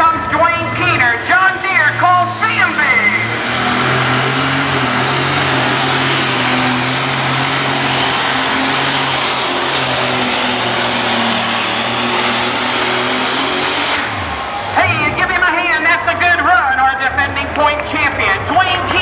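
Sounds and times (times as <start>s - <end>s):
tractor engine at full power: 0.0s - 19.0s
turbo whine: 0.5s - 16.0s.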